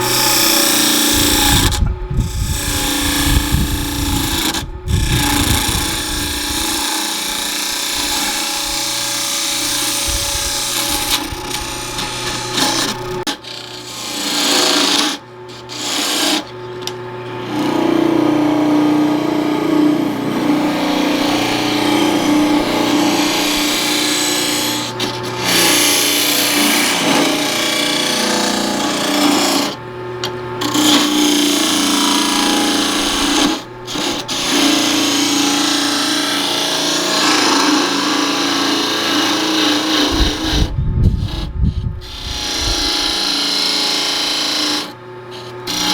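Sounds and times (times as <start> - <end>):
lathe motor hum: 0.0 - 45.9
lathe tool scraping wood: 0.0 - 45.9.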